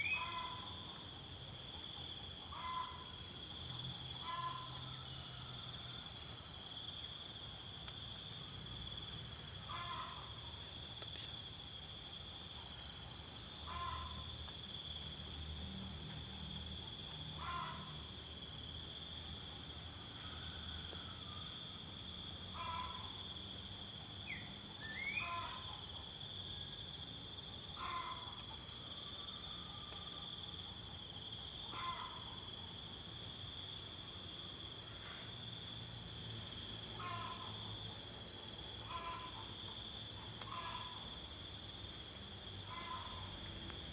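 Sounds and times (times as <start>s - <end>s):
insects buzzing chorus: 0.0s - 43.9s.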